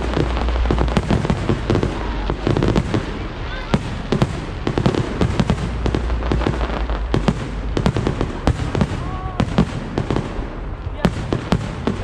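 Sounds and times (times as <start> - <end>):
continuous rumble: 0.0 - 12.0
fireworks bangs and crackles: 0.0 - 12.0.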